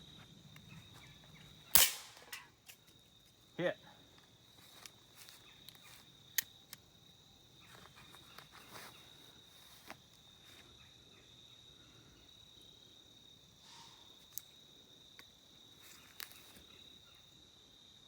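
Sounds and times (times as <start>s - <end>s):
insects calling: 0.0s - 18.0s.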